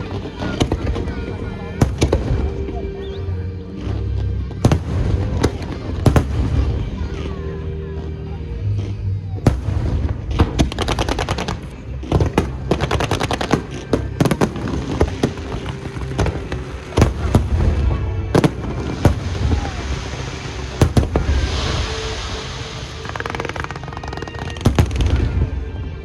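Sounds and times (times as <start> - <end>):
continuous low rumble: 0.0 - 26.0
fireworks bangs and crackles: 0.0 - 26.0.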